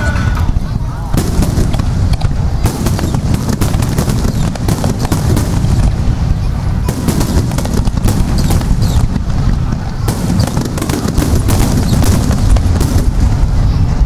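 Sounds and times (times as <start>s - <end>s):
fireworks booming: 0.0s - 14.0s
firework pops and cracks: 0.4s - 13.5s.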